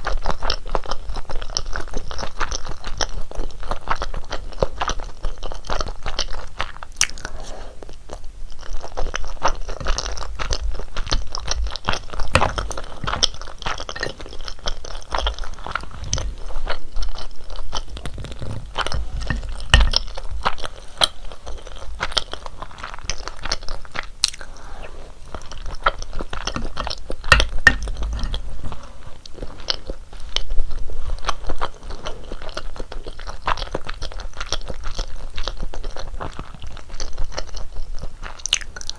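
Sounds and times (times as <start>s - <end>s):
close chewing and mouth sounds: 0.0s - 38.9s.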